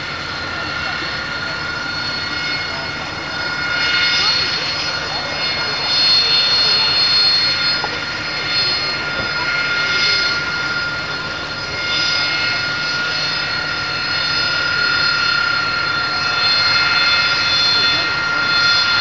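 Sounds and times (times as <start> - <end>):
high engine whine: 0.0 - 19.0
loud jet engine roar: 0.0 - 19.0.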